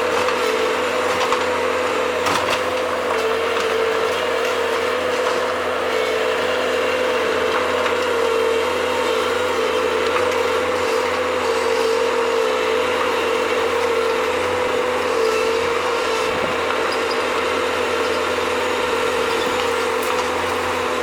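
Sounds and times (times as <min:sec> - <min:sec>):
digger engine and hydraulics whining: 0:00.0 - 0:21.0.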